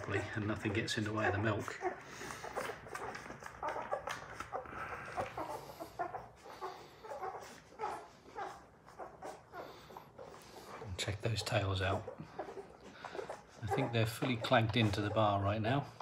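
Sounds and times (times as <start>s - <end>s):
puppies squeaking and grunting: 0.0s - 16.0s.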